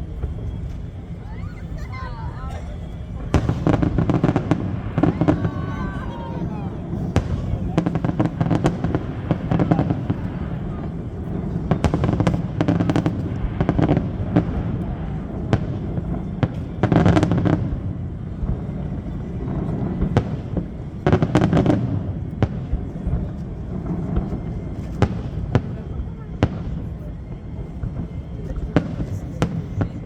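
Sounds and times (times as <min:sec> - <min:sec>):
fireworks crackling bangs: 0:00.0 - 0:30.0.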